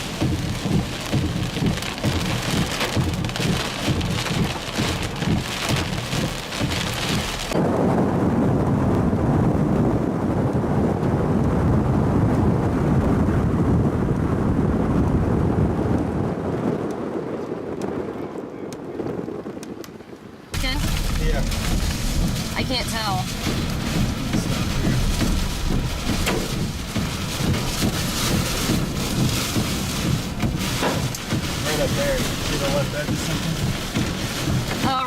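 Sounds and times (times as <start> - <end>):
heavy rain pelting a vehicle: 0.0 - 19.6, 20.5 - 35.0.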